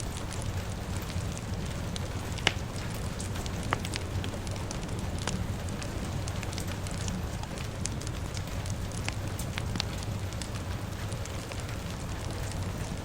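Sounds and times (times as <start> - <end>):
fire crackling with pops: 0.0 - 13.0
rain hissing: 0.0 - 13.0.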